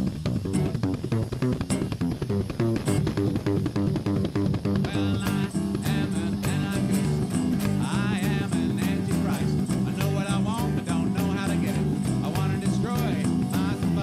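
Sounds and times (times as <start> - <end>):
bass guitar: 0.0 - 14.0
electric guitar: 0.0 - 14.0
steady drum beat: 0.0 - 14.0.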